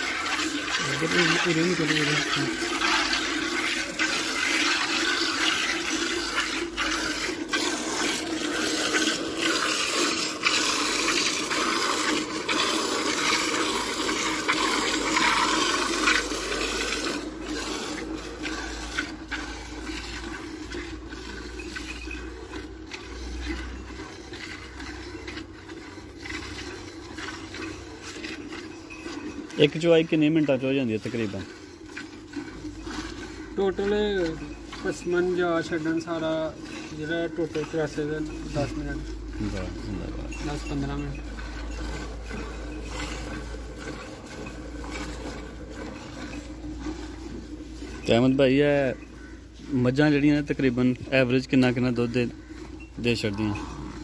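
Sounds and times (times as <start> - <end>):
milk squirting into steel bucket: 0.0 - 54.0.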